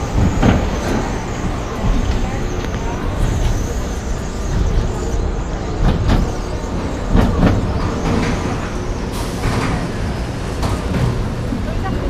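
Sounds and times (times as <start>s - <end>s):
roller coaster clanks: 0.0s - 12.0s
roller coaster wheels rumbling: 0.0s - 12.0s.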